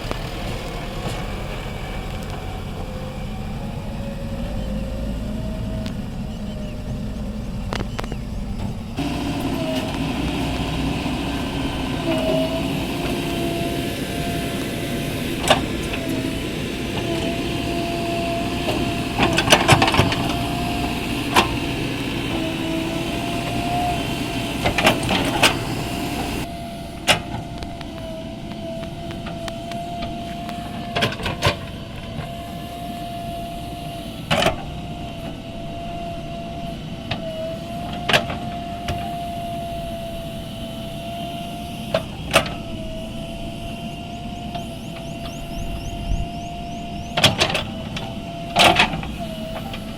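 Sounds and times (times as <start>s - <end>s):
diesel engine whine: 0.0s - 49.9s.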